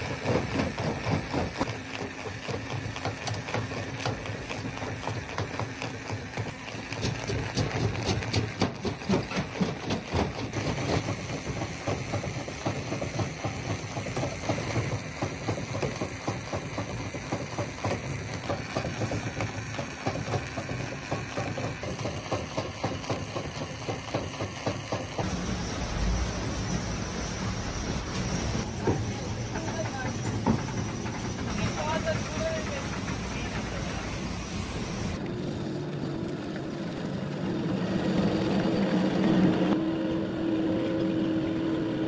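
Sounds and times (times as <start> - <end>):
heavy machinery clattering: 0.0 - 35.2.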